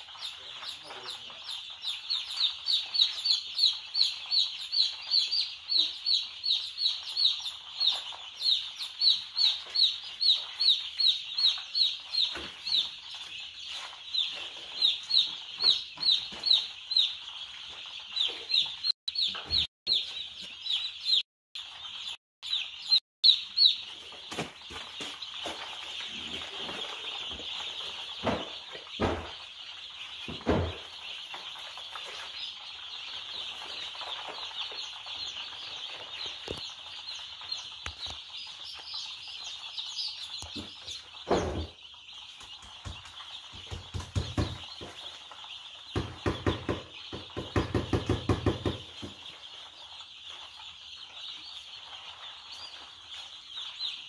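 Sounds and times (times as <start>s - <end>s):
chicks peeping in chorus: 0.0s - 54.0s.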